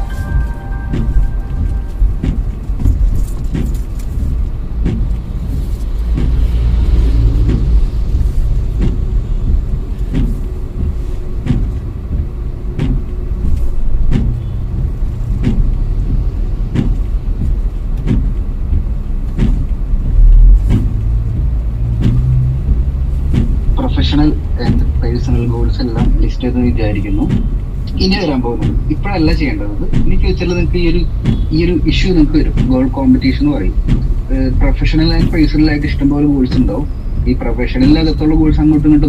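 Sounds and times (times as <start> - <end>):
road and engine rumble: 0.0 - 39.0
regular clicking: 7.3 - 39.0.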